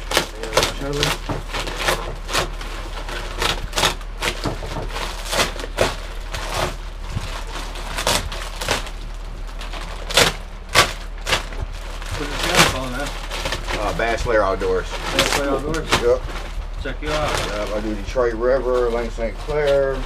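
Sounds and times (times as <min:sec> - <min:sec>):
plastic sheeting crinkling: 0:00.0 - 0:20.0.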